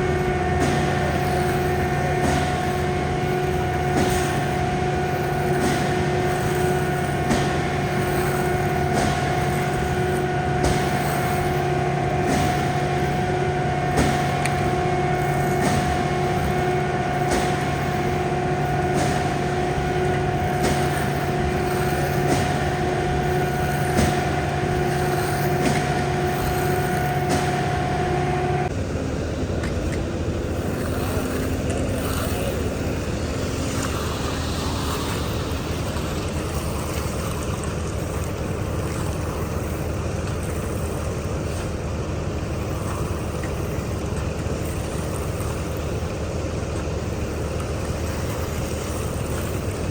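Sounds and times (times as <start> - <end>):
heavy machinery engines running: 0.0 - 49.9.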